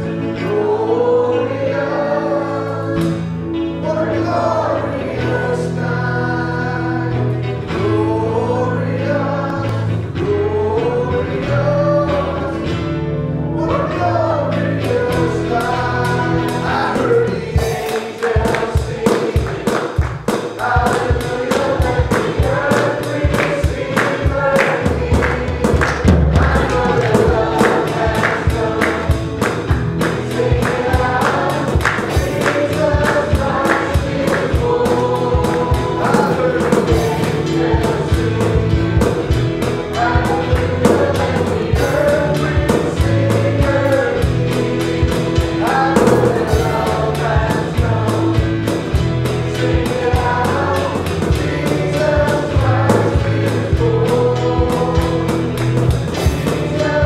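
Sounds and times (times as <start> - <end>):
band playing upbeat song: 0.0 - 57.0
group singing together: 0.0 - 57.0.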